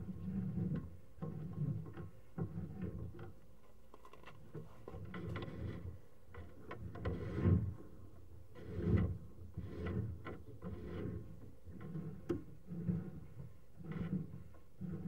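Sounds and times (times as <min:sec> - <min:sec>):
cable rumbling and scraping in pipe: 0:00.0 - 0:15.0.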